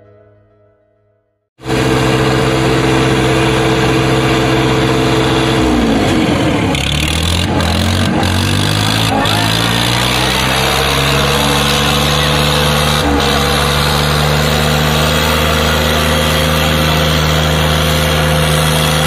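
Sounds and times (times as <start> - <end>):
tractor diesel engines labouring: 1.6 - 19.0.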